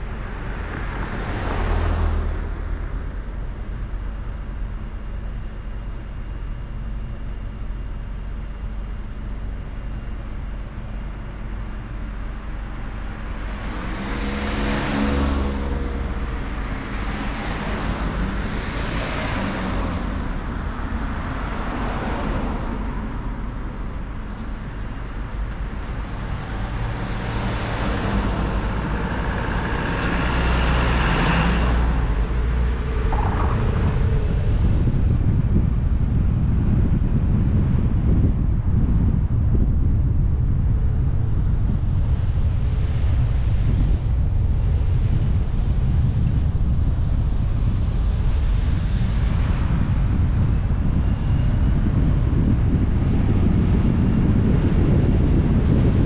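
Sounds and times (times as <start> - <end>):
car engine and tyre noise: 0.0 - 56.0
engine hum rising and falling: 0.0 - 56.0.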